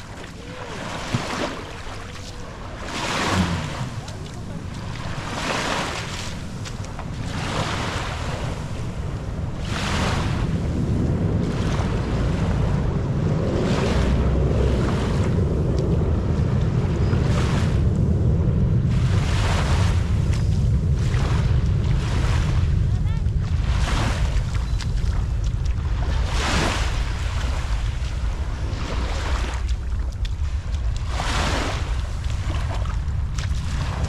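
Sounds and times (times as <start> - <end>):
small waves lapping on sand: 0.0 - 18.0, 18.8 - 34.0
wind rumble on microphone: 0.0 - 34.0.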